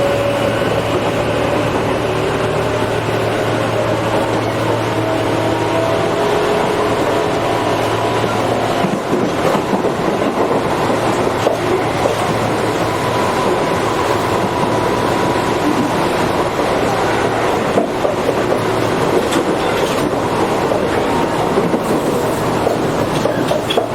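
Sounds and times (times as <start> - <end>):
train clicks: 0.0 - 23.9
train motor hum: 0.0 - 23.9
train wheel and rail rumble: 0.0 - 23.9.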